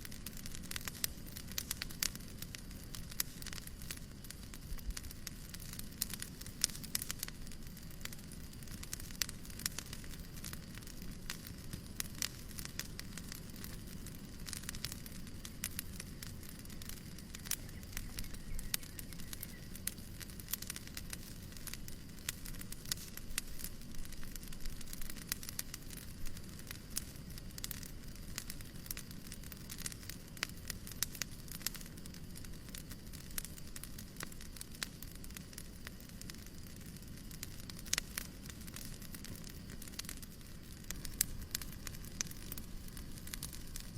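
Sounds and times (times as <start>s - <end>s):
fireplace crackling: 0.0s - 43.9s
low fire hiss: 0.0s - 43.9s.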